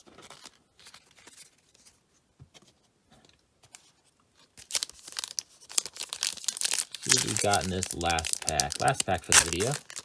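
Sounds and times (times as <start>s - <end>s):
cards and foil packs rustling: 0.0s - 2.0s, 3.7s - 10.0s.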